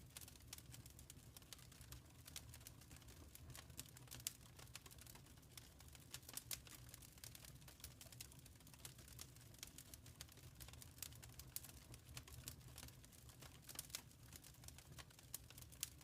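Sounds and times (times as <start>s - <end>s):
faint low fire rumble: 0.0s - 16.0s
wood fire pops and snaps: 0.1s - 16.0s.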